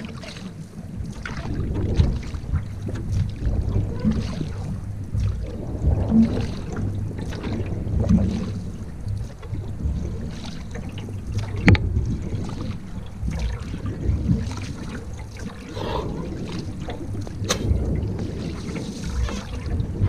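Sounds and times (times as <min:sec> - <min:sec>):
paddling in water: 0:00.0 - 0:20.0
wind on microphone: 0:00.0 - 0:20.0.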